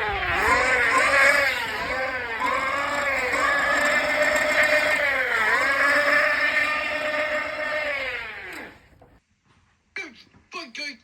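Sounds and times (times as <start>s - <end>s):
electric bike motor whining: 0.0s - 9.2s.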